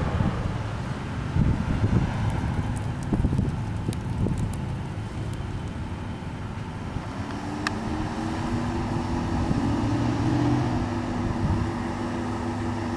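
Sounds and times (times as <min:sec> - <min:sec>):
pickup truck engine: 0:00.0 - 0:12.9
road rumble: 0:00.0 - 0:12.9.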